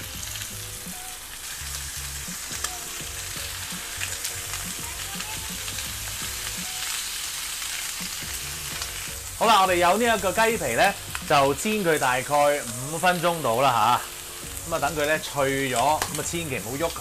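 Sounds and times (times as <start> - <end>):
chicken sizzling in frying pan: 0.0 - 17.0.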